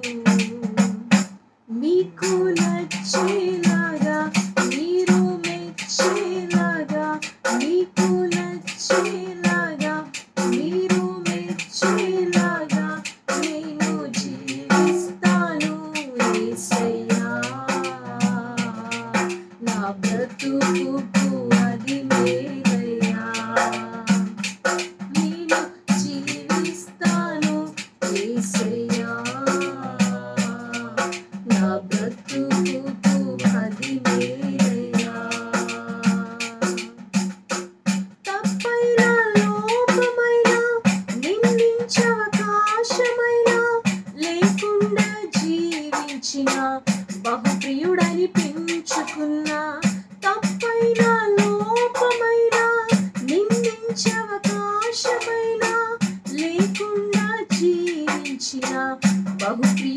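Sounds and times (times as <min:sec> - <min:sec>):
woman singing: 0:00.0 - 0:37.0, 0:38.2 - 0:59.9.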